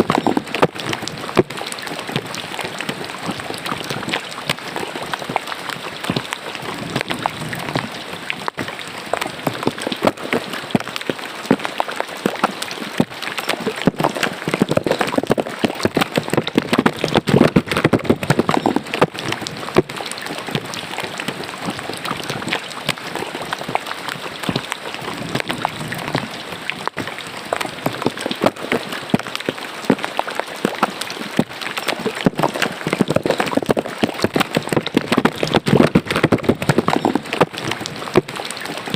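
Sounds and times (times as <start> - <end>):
rain splashing into drain water: 0.0 - 38.9.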